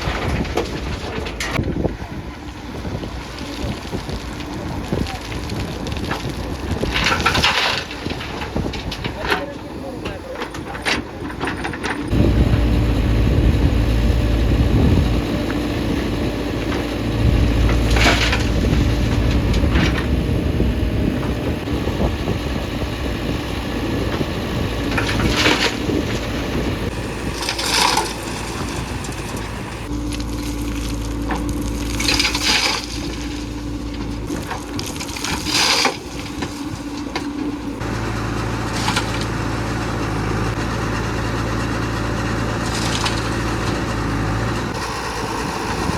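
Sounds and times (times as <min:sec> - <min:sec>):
diesel engine working under load: 0:00.0 - 0:45.9.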